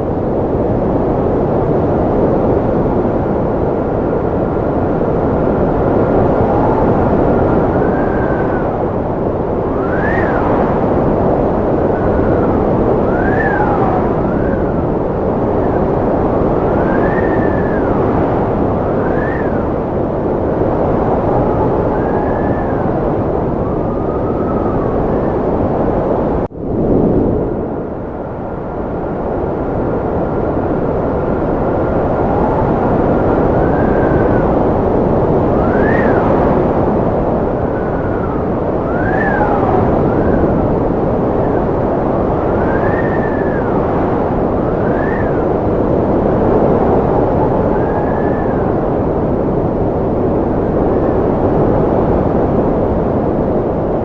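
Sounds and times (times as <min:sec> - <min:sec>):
strong wind howling: 0:00.0 - 0:54.0.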